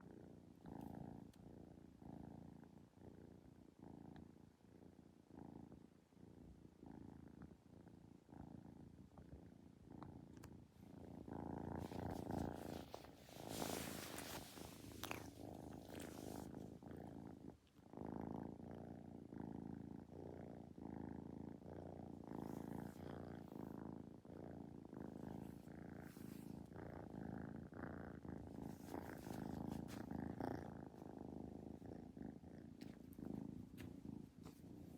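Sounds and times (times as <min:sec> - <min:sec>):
kitten purring: 0:00.0 - 0:34.9.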